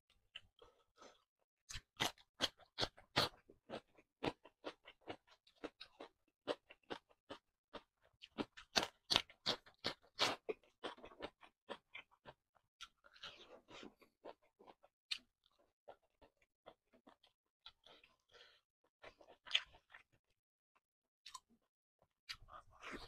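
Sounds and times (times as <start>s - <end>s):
crunchy chewing of cucumber: 0.6s - 20.1s.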